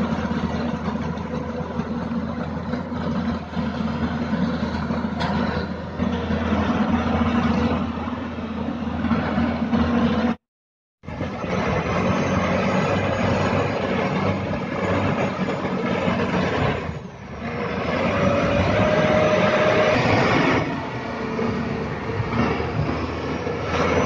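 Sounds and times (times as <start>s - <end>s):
diesel engine running: 0.0s - 10.4s, 11.0s - 24.0s.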